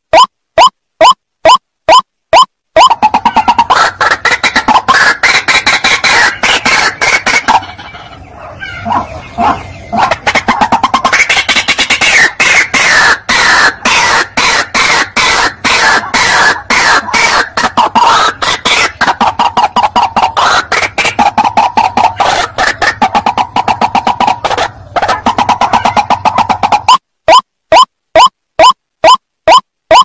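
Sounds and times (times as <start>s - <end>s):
bird harsh repeated calls: 0.1s - 30.0s.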